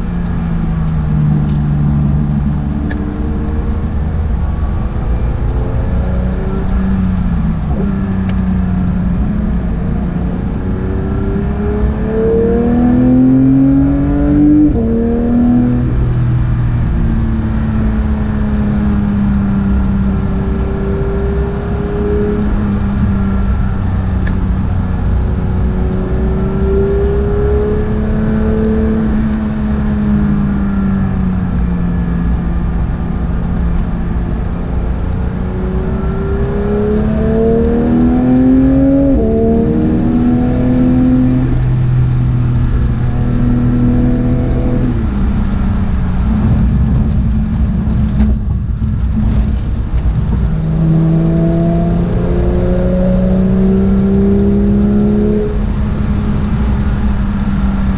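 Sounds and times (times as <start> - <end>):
sports car engine revving: 0.0 - 57.9.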